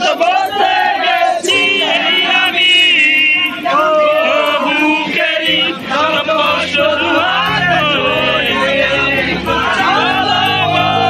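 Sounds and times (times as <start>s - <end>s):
men singing loudly in chorus: 0.0s - 11.0s.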